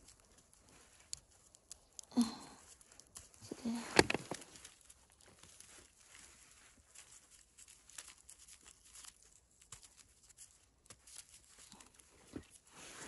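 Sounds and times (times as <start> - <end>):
rustling and tearing mushrooms: 0.0 - 13.0.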